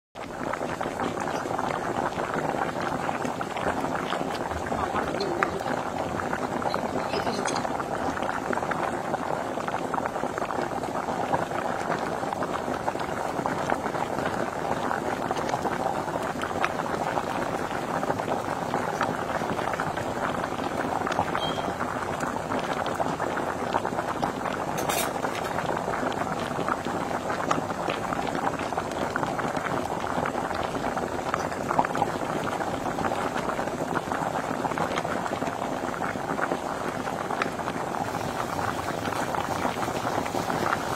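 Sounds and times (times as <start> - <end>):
oil sizzling in frying pan: 0.2 - 40.9.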